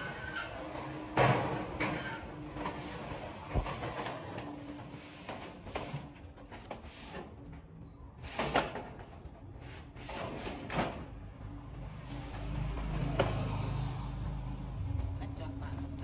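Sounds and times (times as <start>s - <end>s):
metal roofing sheet scraping and clanking: 0.0s - 11.3s, 11.9s - 13.8s.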